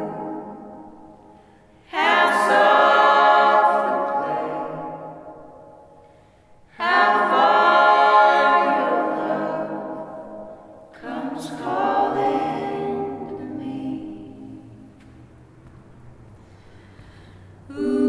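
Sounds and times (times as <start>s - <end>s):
a cappella group singing in harmony: 0.0s - 15.2s, 17.1s - 18.0s.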